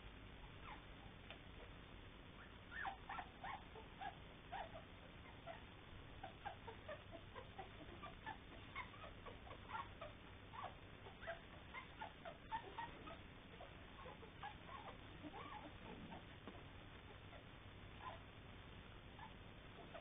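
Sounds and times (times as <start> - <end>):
puppies squeaking: 2.4 - 17.4, 18.0 - 18.3, 19.2 - 20.0.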